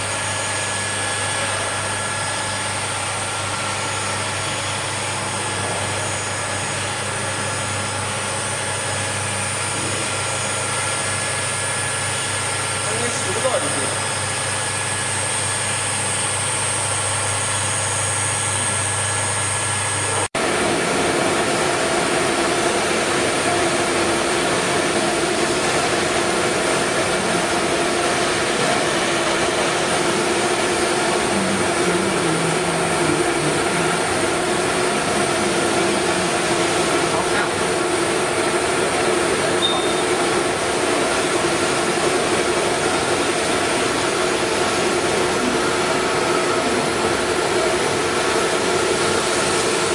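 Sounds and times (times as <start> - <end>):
different steady machine noise: 0.0 - 49.9
machine hum with high whine: 0.0 - 49.9.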